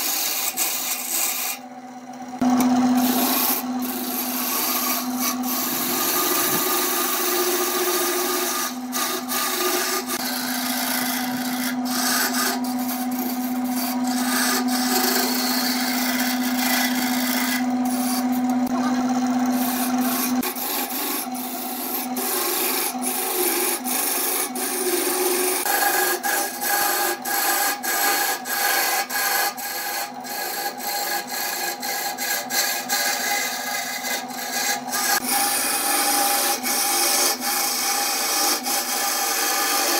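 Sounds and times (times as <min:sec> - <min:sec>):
lathe motor hum: 0:00.0 - 0:39.9
wood lathe cutting scraping: 0:00.0 - 0:39.9.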